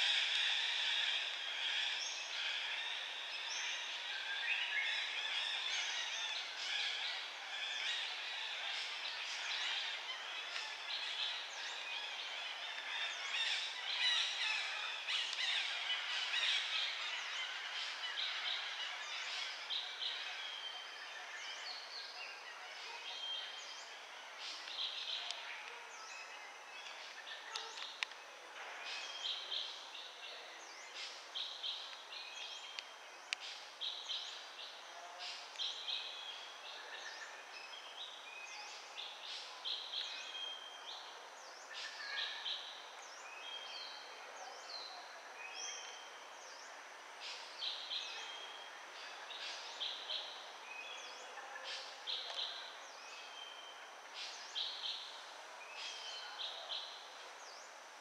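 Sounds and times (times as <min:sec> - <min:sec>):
faint background hiss: 0:00.0 - 0:58.0
small birds chirping: 0:00.0 - 0:58.0.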